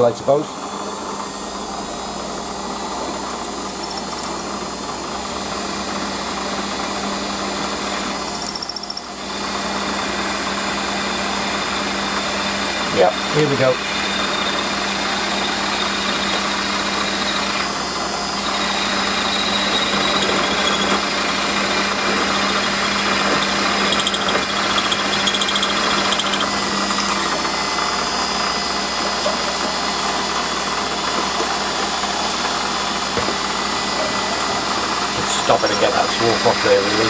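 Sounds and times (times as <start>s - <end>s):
metal lathe motor hum: 0.0s - 37.0s
drill cutting steel: 3.3s - 6.3s, 7.3s - 37.0s.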